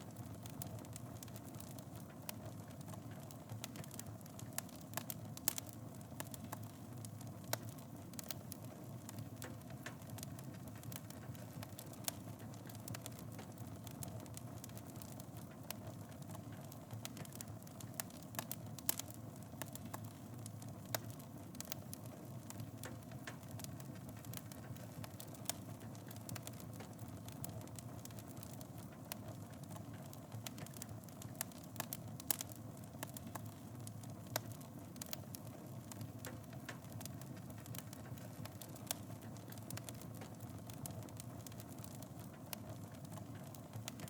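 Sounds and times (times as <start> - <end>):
fire crackling and popping: 0.0 - 44.0
fire rumbling: 0.0 - 44.0.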